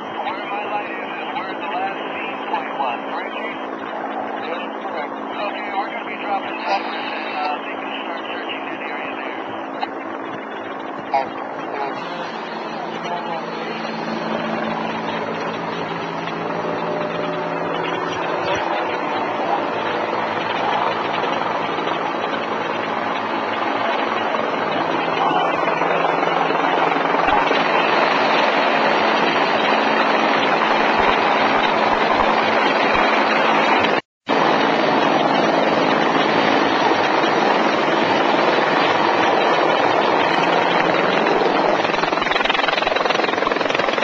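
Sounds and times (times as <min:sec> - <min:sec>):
helicopter hovering: 0:00.0 - 0:44.0.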